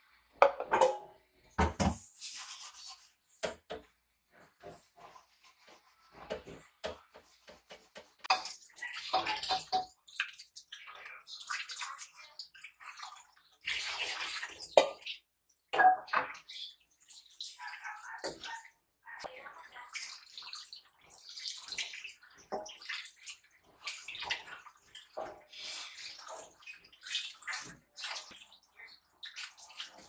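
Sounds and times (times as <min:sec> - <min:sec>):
water splashing and running: 0:04.4 - 0:15.3, 0:16.1 - 0:30.0.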